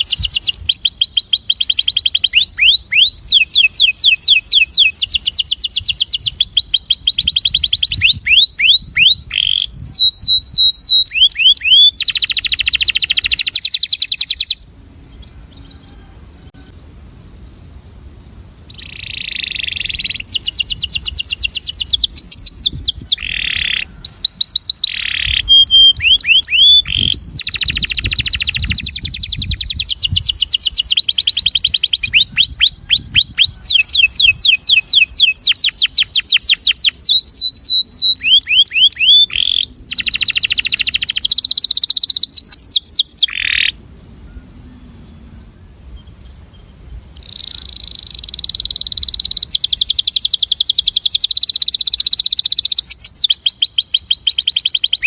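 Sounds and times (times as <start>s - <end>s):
canary singing trills: 0.0s - 17.2s, 17.9s - 55.0s.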